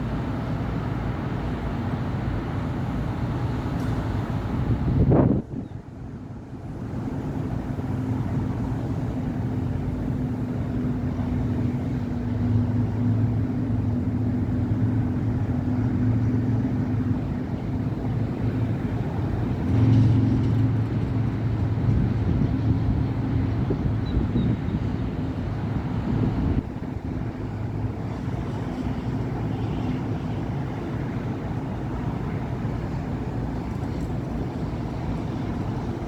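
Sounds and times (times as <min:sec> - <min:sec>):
low engine hum: 0:00.0 - 0:36.0
passing cars and buses: 0:00.0 - 0:36.0.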